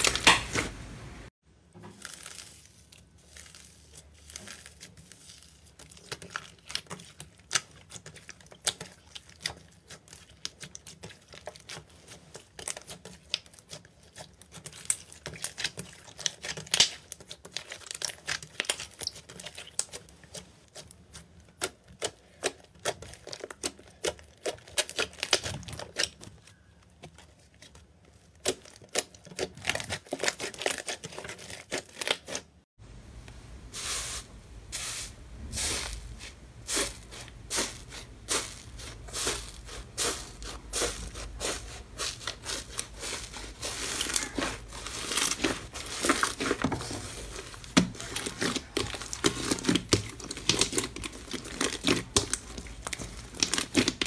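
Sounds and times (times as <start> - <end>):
slime crackling and popping: 1.9 - 20.9, 21.5 - 32.5, 37.6 - 54.0.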